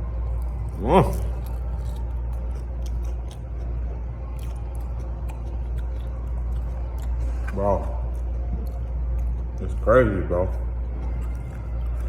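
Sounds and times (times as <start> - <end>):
chewing crisp salad greens: 0.0 - 12.0
low hum: 0.0 - 12.0.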